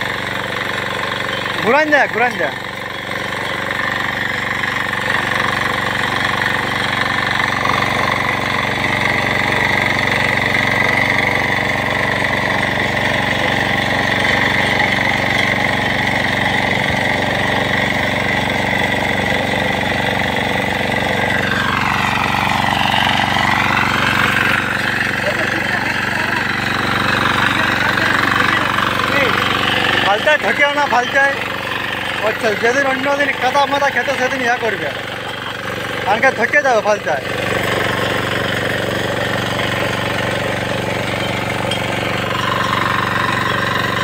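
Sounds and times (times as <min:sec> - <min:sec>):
diesel engine running: 0:00.0 - 0:44.0
tines churning soil: 0:00.0 - 0:44.0.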